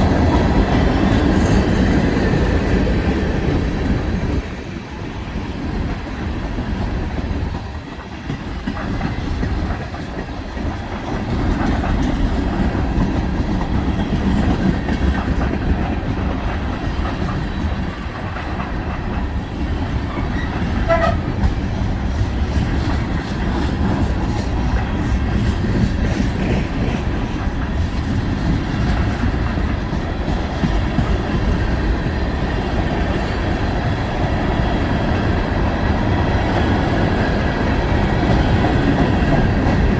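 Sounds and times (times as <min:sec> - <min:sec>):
freight train rumbling: 0:00.0 - 0:39.9
wheels clacking over rail joints: 0:00.0 - 0:39.9.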